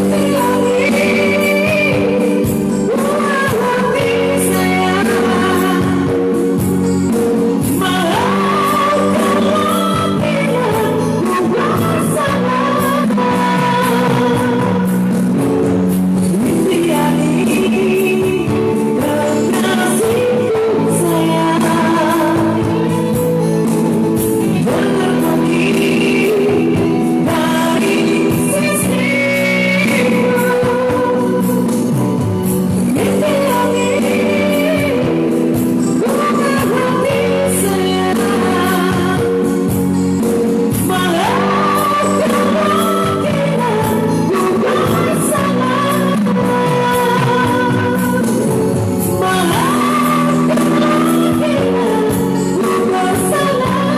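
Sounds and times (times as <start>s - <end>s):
band accompaniment: 0.0s - 53.9s.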